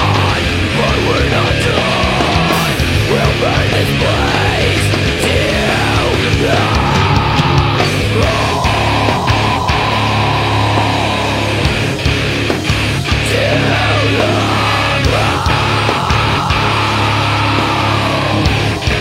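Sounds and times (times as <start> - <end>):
heavy metal music: 0.0 - 19.0.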